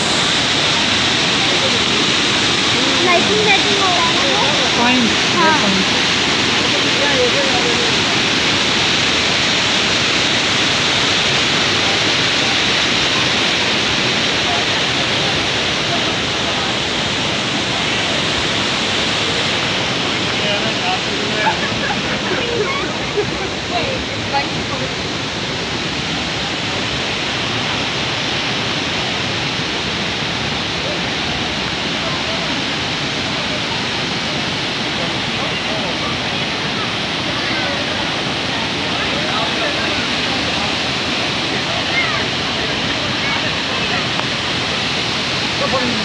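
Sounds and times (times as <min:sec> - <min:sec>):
waterfall rushing over rocks: 0:00.0 - 0:46.0.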